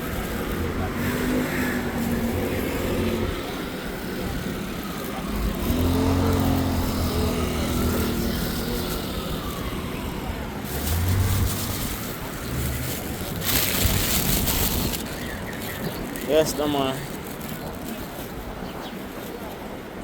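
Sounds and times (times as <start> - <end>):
vehicle engines passing: 0.0 - 19.6.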